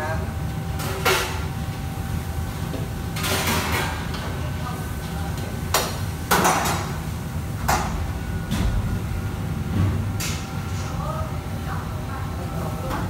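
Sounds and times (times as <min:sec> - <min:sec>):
burners and extractor hood rumble: 0:00.0 - 0:13.0.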